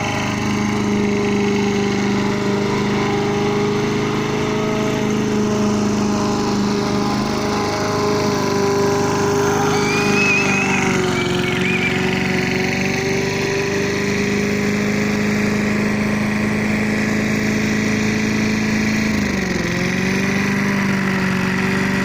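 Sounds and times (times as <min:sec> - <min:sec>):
lawnmower engine running: 0:00.0 - 0:22.0.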